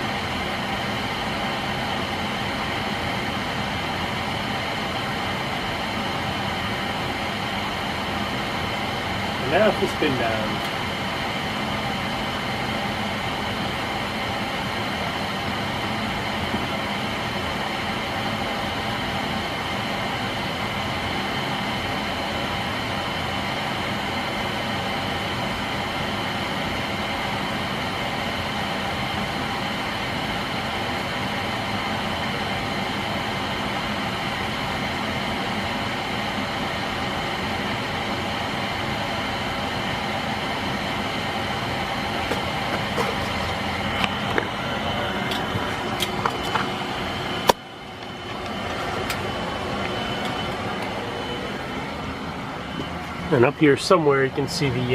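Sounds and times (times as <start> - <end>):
steady mechanical hum: 0.0 - 54.9.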